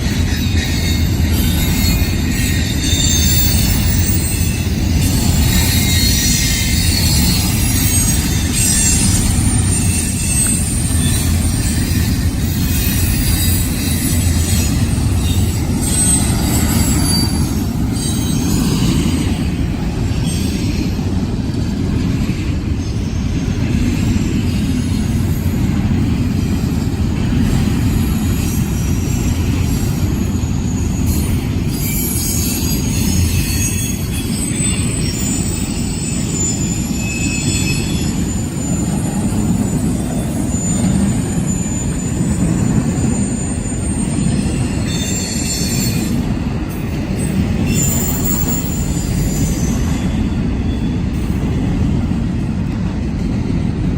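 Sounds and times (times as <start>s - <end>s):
high-pitched wheel squeals: 0.0s - 21.0s, 22.8s - 51.4s
train wheels rumbling on rails: 0.0s - 53.9s.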